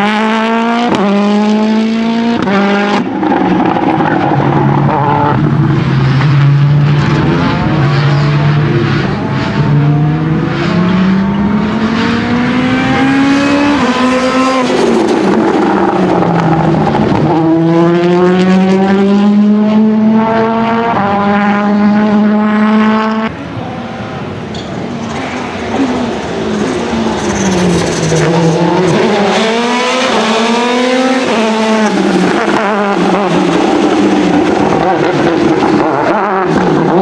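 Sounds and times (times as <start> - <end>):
rally car engine accelerating: 0.0 - 37.0.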